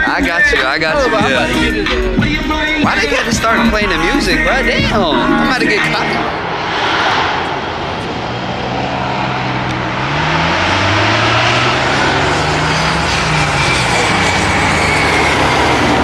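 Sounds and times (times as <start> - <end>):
car engine accelerating: 0.0 - 16.0
supercharger whine: 0.0 - 16.0.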